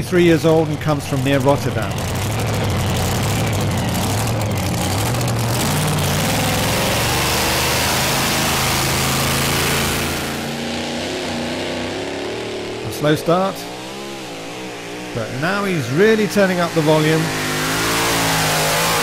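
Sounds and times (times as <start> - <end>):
tractor engine running rough: 0.0 - 19.0.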